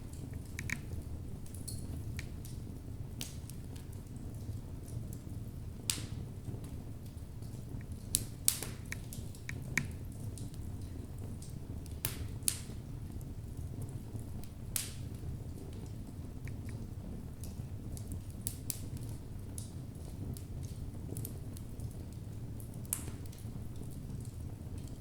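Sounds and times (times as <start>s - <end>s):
fire rumbling: 0.0s - 25.0s
wood crackling and popping: 0.0s - 25.0s.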